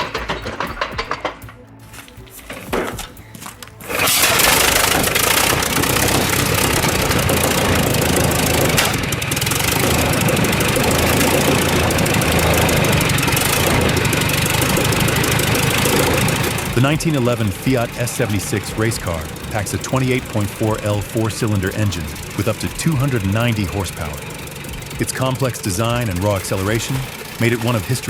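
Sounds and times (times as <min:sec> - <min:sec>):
large engine running: 0:00.0 - 0:28.0
rapid clicking: 0:00.0 - 0:28.0.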